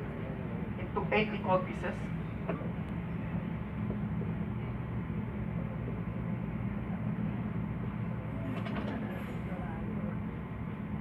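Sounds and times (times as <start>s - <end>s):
machinery hum and rumble: 0.0s - 11.0s.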